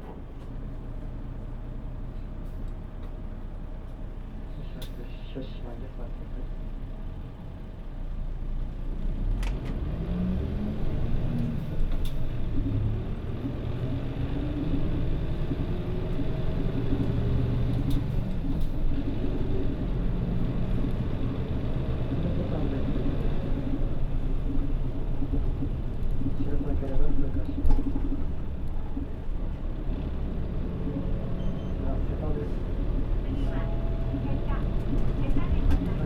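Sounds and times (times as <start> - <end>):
bus diesel engine accelerating: 0.0 - 36.0.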